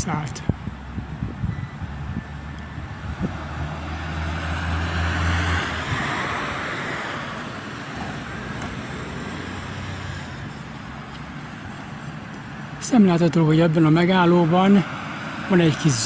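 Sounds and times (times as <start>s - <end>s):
vehicle passing: 0.6s - 16.0s.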